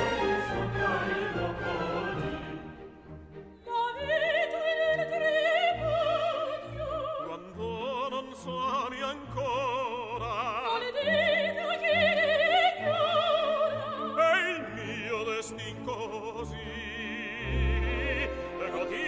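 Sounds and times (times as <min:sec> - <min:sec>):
operatic singing: 0:00.0 - 0:19.0
orchestral accompaniment: 0:00.0 - 0:19.0.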